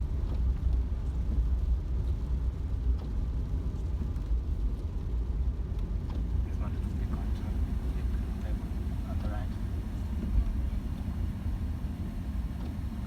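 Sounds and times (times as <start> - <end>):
vehicle interior rumble: 0.0 - 13.0.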